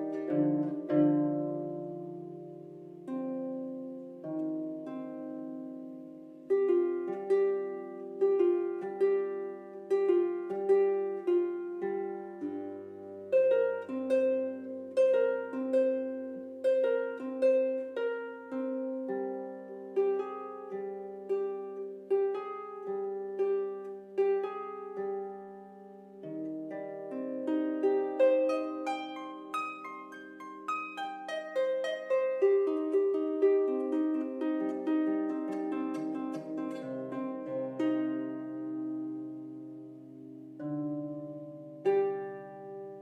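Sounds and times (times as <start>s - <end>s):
plucked string melody: 0.0s - 43.0s.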